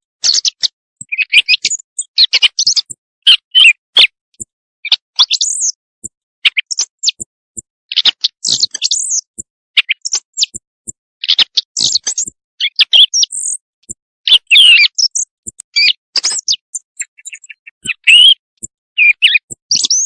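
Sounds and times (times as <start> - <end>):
recorded bird chirps and whistles: 0.2 - 20.0.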